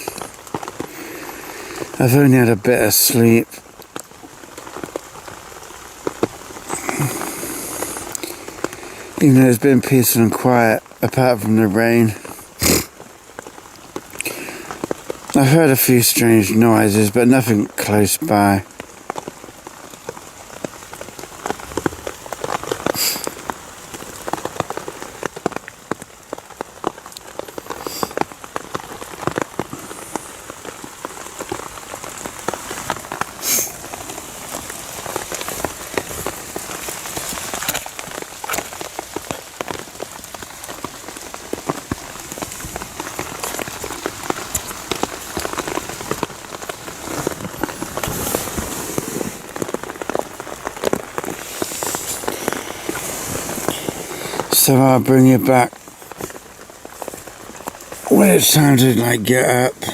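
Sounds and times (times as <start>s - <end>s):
raindrops ticking on a surface: 0.0s - 59.9s
steady rain falling: 0.0s - 59.9s.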